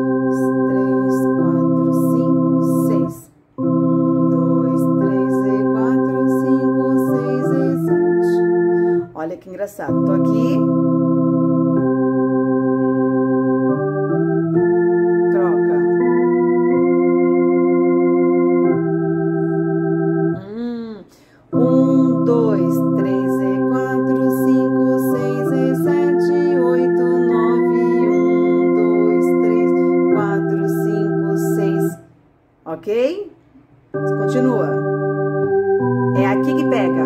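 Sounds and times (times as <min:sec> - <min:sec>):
electronic organ playing hymn chords: 0:00.0 - 0:20.4, 0:21.4 - 0:32.1, 0:33.9 - 0:37.0.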